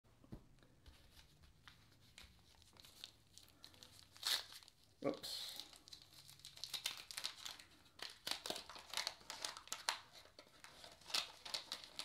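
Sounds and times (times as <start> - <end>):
wax paper wrapper crinkling: 1.1 - 12.0.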